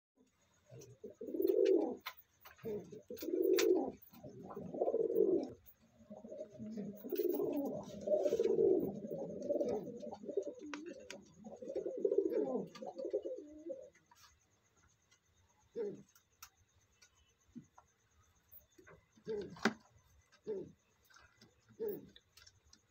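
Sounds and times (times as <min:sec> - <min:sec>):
pigeons cooing: 0:00.7 - 0:14.3, 0:15.6 - 0:16.5, 0:18.6 - 0:22.5.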